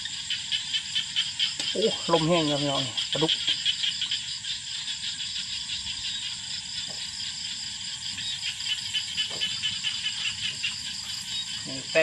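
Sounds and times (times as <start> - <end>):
frogs pulsing calls: 0.0 - 12.0
insects trilling: 0.0 - 12.0.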